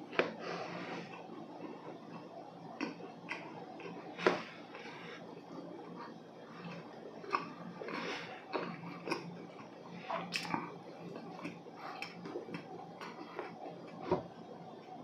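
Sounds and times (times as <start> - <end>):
chewing dry cakes: 0.0 - 15.0.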